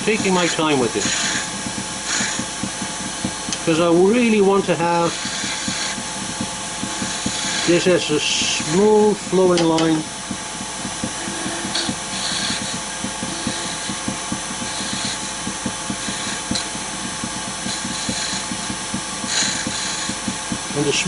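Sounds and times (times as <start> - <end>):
gouge cutting wood hiss: 0.0 - 21.0
wood lathe humming: 0.0 - 21.0.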